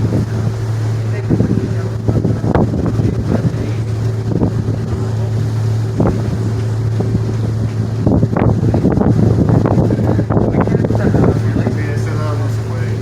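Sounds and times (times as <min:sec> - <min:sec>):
ship engines droning: 0:00.0 - 0:13.0
wind buffeting microphone: 0:00.0 - 0:13.0.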